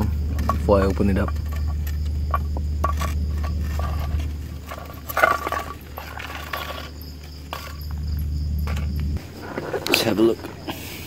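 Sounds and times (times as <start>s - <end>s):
low rumble: 0.0s - 9.4s
metal container scraping and clattering: 0.0s - 10.1s.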